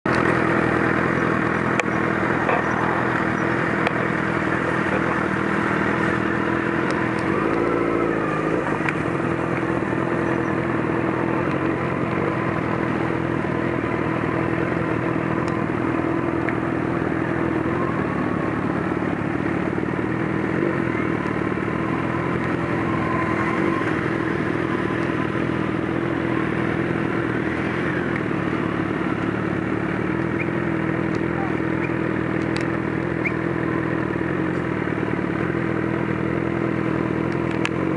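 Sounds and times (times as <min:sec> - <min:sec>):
motorcycle engines running: 0:00.0 - 0:37.9.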